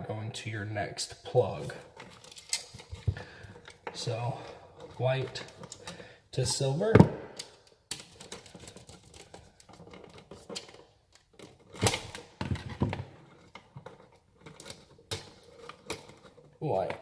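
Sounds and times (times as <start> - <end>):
hand work clicks and rustles: 1.6 - 17.0.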